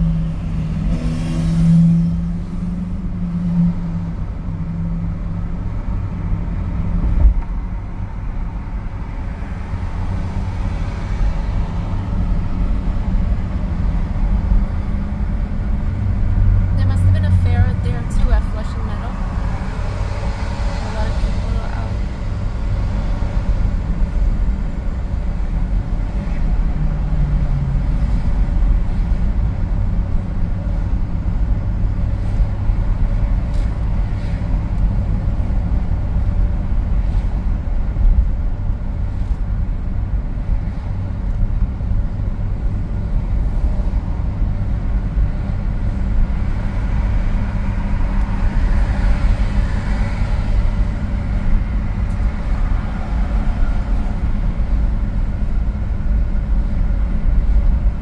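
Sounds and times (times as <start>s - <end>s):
car tyre and road noise: 0.0s - 58.0s.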